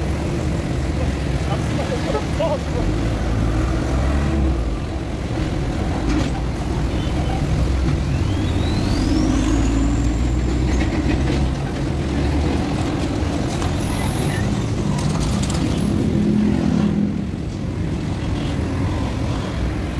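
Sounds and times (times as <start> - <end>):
diesel engine rumbling: 0.0 - 19.2.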